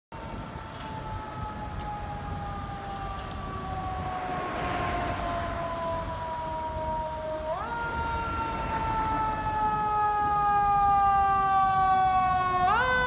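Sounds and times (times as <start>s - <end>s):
fire engine siren wailing: 0.2s - 13.0s.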